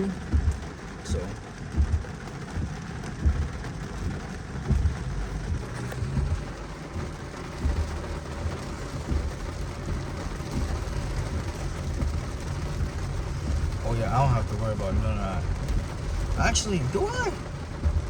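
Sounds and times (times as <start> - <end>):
car road and engine rumble: 0.0 - 18.0
low thumps: 0.2 - 18.0.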